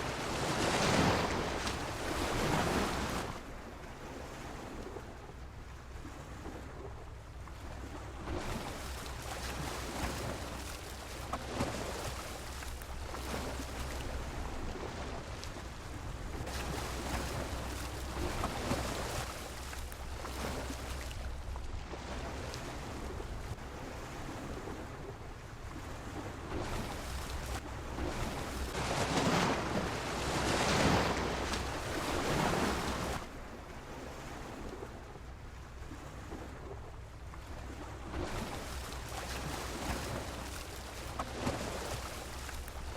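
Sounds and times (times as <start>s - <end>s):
sea waves washing against pier: 0.0s - 42.9s
wind rumble on microphone: 0.0s - 42.9s.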